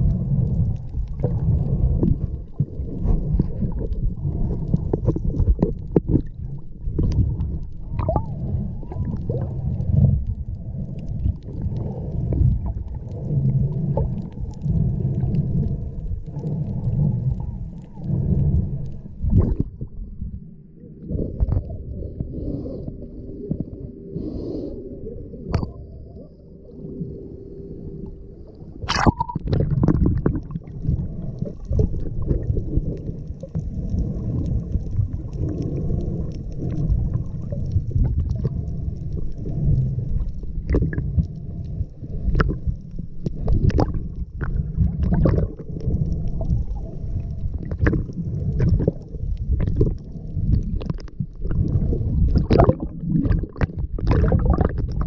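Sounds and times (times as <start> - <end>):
muffled underwater rumble: 0.0 - 55.0
underwater clicks and crackles: 0.0 - 55.0.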